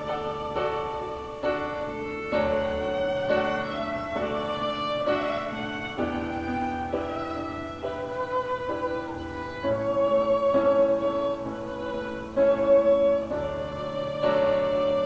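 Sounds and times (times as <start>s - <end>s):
slow string-like instrumental music: 0.0s - 15.0s.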